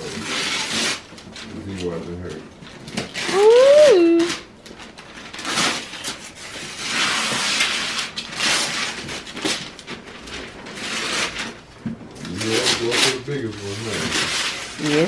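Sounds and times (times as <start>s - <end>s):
wrapping paper tearing: 0.0s - 15.0s.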